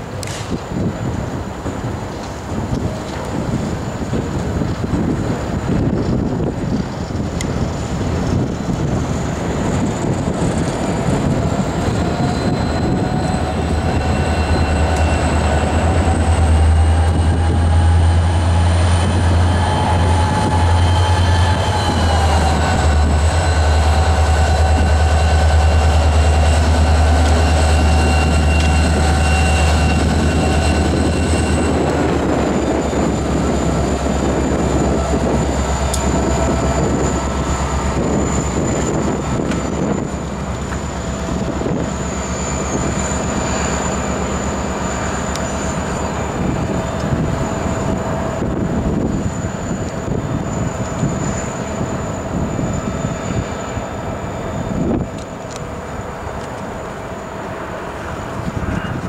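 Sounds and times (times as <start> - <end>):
locomotive engine rumble: 0.0 - 59.0
high whine: 3.8 - 59.0.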